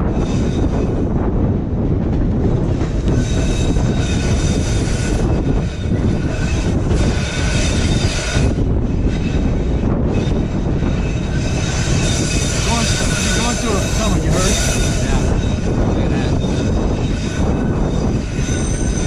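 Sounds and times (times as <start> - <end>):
train rumbling on track: 0.0 - 19.0
high wheel squeal: 2.9 - 19.0.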